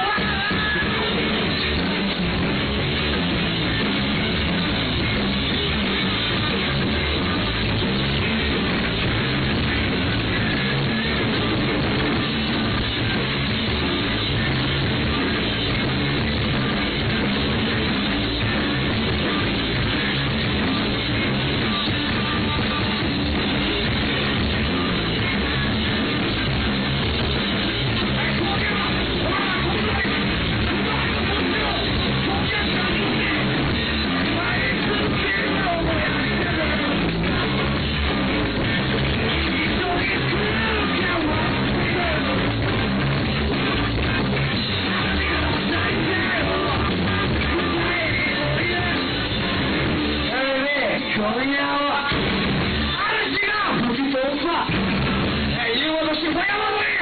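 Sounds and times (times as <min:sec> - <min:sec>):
electric guitar: 0:00.0 - 0:57.0
live rock band playing: 0:00.0 - 0:57.0.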